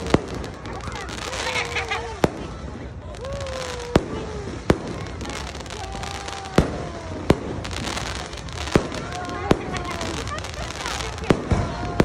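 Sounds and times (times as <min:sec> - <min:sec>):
crackle of firework stars: 0:00.0 - 0:12.0.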